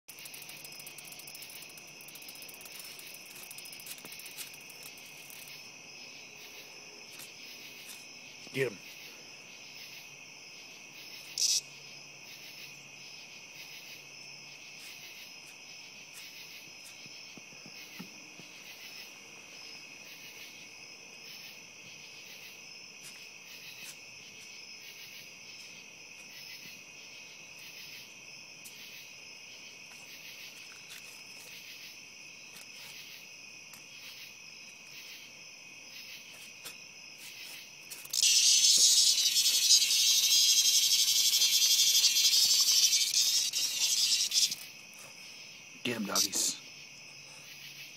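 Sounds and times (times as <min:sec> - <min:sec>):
harsh cicada buzz: 0:00.1 - 0:47.9
night insects trilling: 0:00.1 - 0:47.9.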